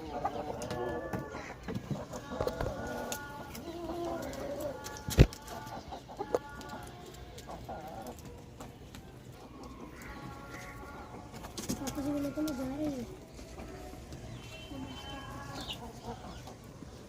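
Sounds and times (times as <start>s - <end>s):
poultry clucking: 0.0s - 17.0s.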